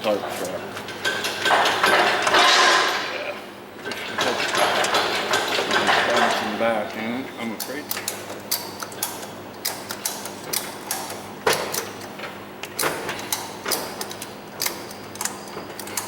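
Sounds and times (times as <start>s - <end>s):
metal clicks and clanks: 0.4s - 7.0s, 7.6s - 16.0s.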